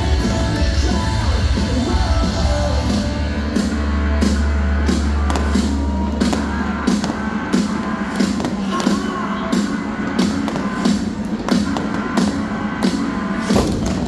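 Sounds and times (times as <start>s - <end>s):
rock music over loudspeakers: 0.0s - 14.0s.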